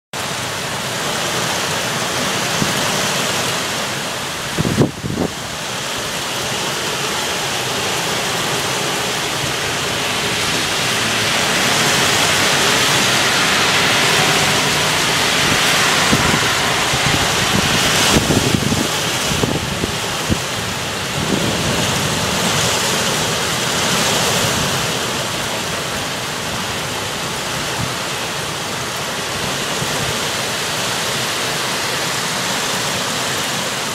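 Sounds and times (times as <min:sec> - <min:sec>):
heavy rain pouring: 0:00.2 - 0:33.9.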